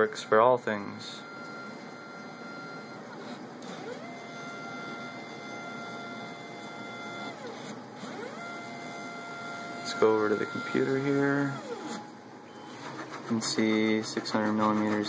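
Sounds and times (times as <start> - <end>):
stepper motors whining: 1.1 - 15.0.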